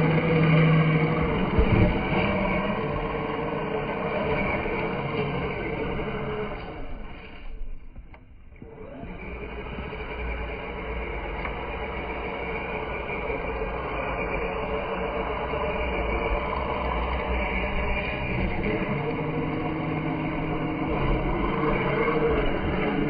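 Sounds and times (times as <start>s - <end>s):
rc truck electric motor running: 0.0s - 8.0s, 8.6s - 23.0s.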